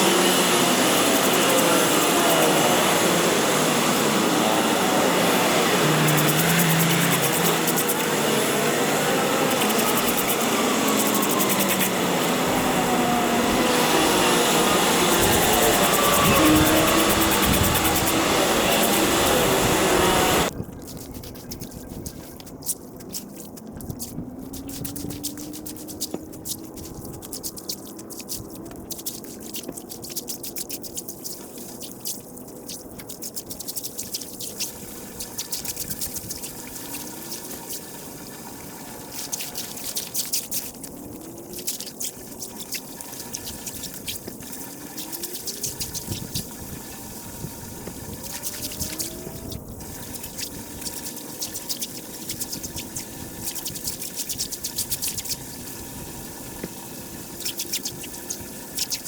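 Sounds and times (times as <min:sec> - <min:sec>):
water drips and splashes: 0:00.0 - 0:59.0
water trickling into a drain: 0:00.0 - 0:59.0.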